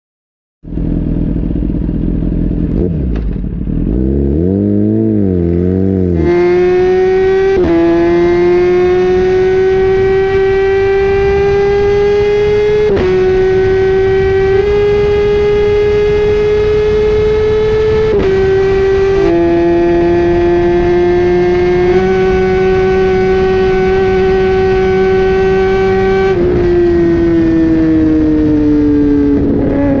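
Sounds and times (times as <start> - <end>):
motorcycle engine revving high: 0.7 - 30.0.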